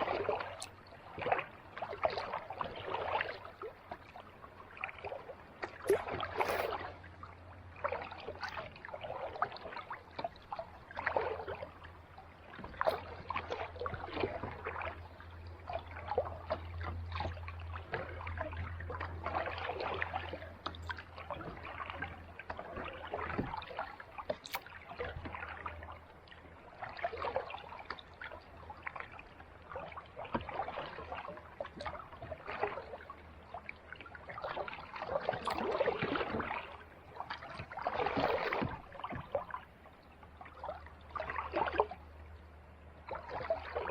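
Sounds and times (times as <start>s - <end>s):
kayak paddle splashing water: 0.0s - 43.9s
low steady hum: 0.0s - 43.9s.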